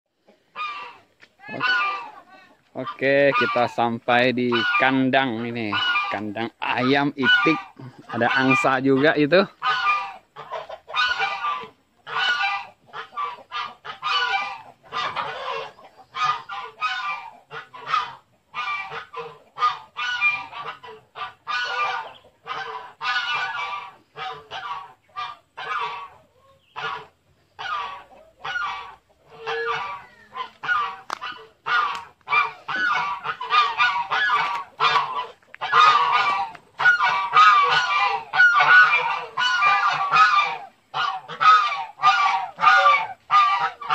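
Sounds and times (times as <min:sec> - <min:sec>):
geese honking: 0:00.2 - 0:43.9.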